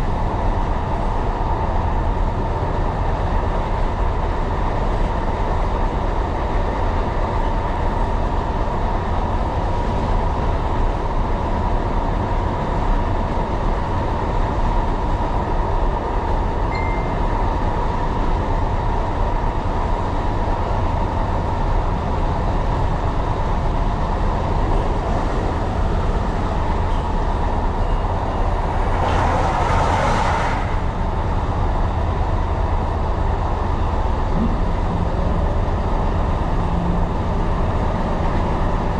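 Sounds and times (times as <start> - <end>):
train rumble on track: 0.0 - 38.9.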